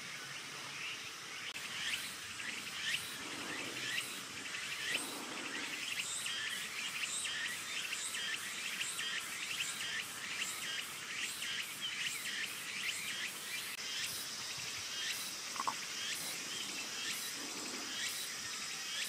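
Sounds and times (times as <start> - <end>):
background hiss: 0.0 - 19.0
insects chirping: 0.0 - 19.0.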